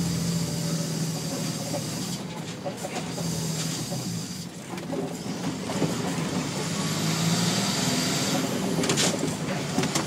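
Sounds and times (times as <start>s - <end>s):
diesel lorry engine running: 0.0s - 10.0s.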